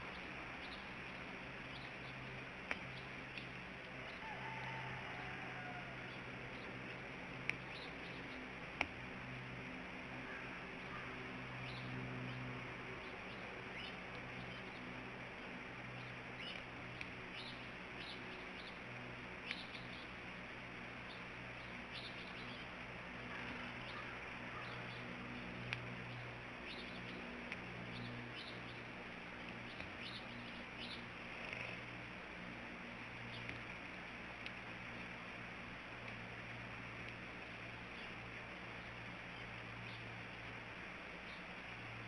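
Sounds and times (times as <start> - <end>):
low hum and hiss: 0.0 - 42.0.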